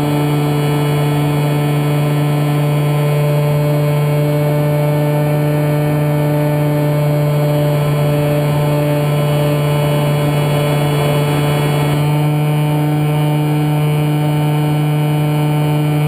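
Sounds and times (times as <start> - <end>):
model plane motor humming: 0.0 - 16.0.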